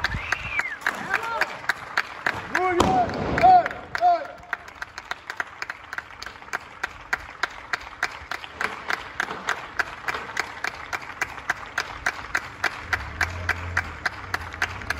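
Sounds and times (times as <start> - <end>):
crowd applause: 0.0 - 14.9
nearby hands clapping steadily: 0.0 - 14.9.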